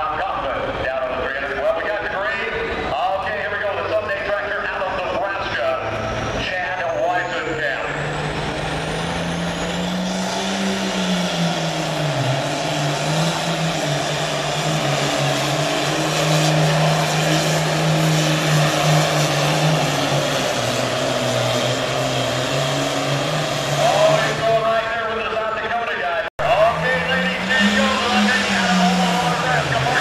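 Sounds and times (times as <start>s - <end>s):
tractor diesel engine running hard: 0.0s - 30.0s.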